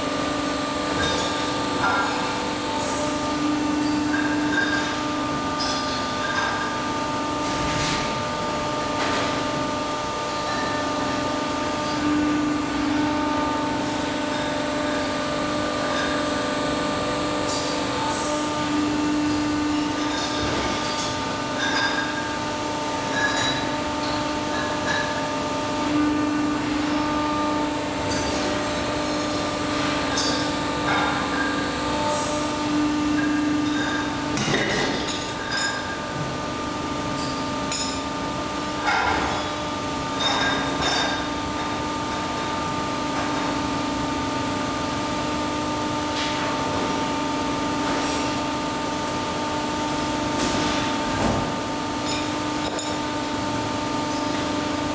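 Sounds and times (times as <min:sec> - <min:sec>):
steady machine hum: 0:00.0 - 0:54.9.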